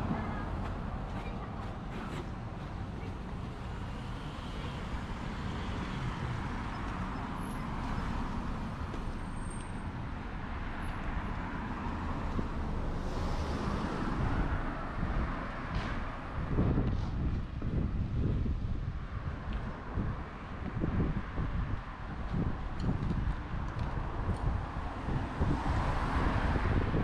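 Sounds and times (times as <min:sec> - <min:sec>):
cars passing by: 0:00.0 - 0:27.0.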